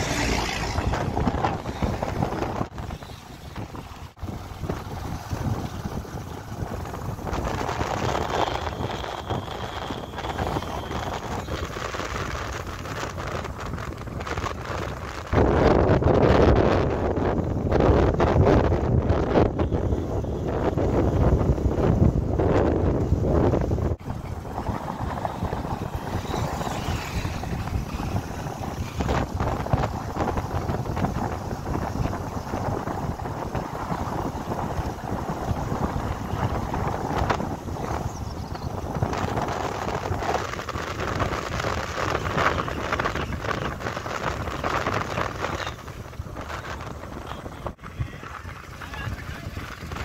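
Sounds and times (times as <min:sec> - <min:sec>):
engine and road noise rumble: 0:00.0 - 0:50.0
wind buffeting microphone: 0:00.0 - 0:50.0.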